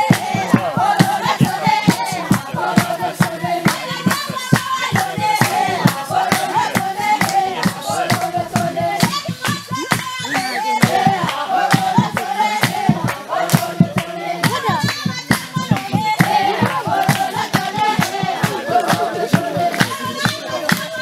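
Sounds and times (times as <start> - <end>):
group singing a hymn: 0.0 - 21.0
hand-clapping: 0.0 - 21.0.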